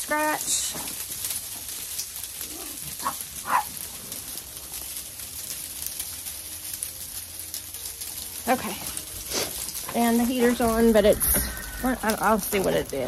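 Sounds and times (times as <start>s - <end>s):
sleet pattering on greenhouse roof: 0.0s - 13.0s.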